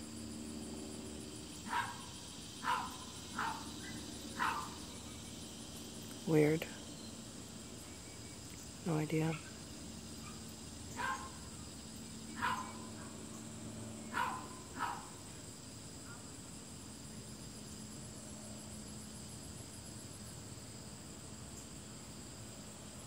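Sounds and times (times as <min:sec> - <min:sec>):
high insect buzz: 0:00.0 - 0:23.0.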